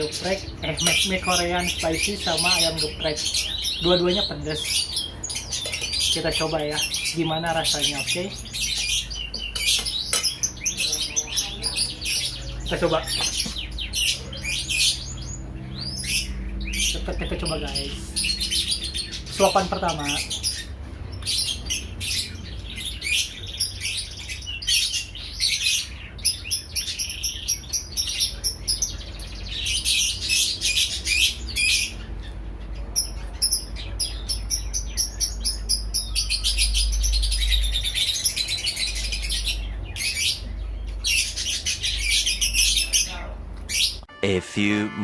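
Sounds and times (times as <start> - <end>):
small birds chirping: 0.0 - 44.1.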